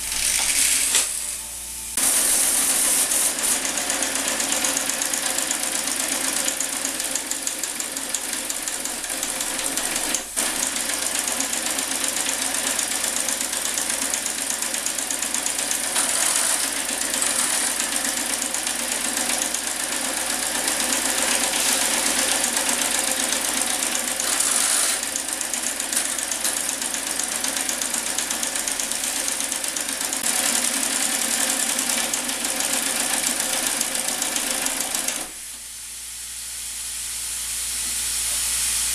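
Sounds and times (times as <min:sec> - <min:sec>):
small steam engine running with hiss: 0:00.0 - 0:38.9.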